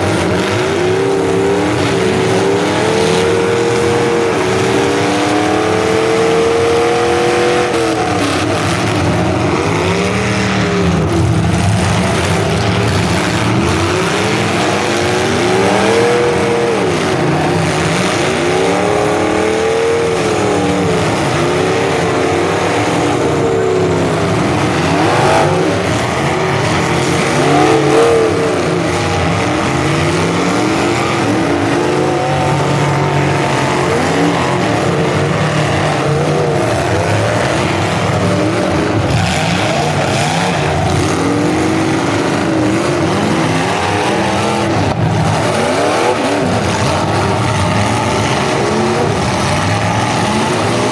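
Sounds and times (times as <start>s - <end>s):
car engines revving hard: 0.0s - 50.9s.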